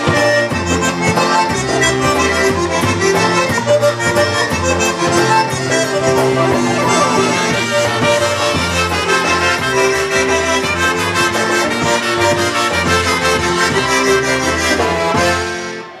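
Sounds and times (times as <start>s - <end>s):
fast folk dance band: 0.0s - 16.0s
trumpets playing melody: 0.0s - 16.0s.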